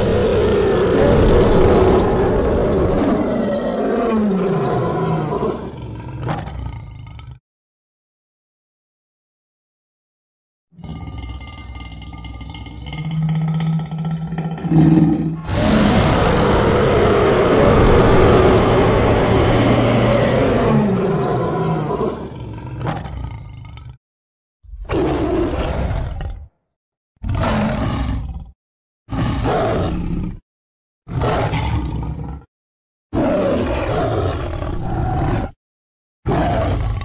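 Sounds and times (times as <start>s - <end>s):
big cat roaring: 0.0s - 7.4s, 10.8s - 24.0s, 24.7s - 26.6s, 27.2s - 30.4s, 31.1s - 32.5s, 33.1s - 35.6s, 36.3s - 37.0s.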